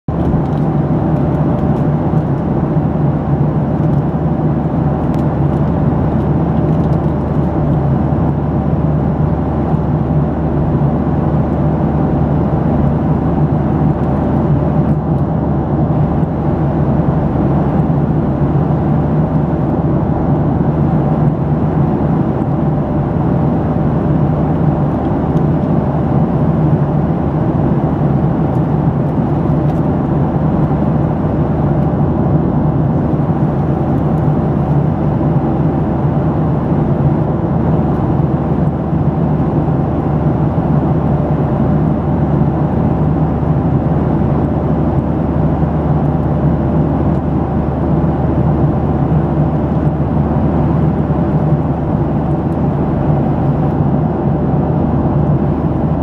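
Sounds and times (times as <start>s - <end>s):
airliner cabin drone: 0.1s - 56.0s.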